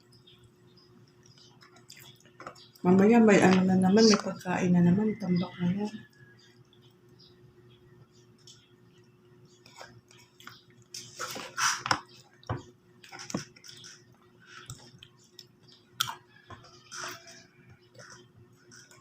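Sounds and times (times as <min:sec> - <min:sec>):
chewing and eating: 0:00.0 - 0:02.9, 0:05.4 - 0:19.0.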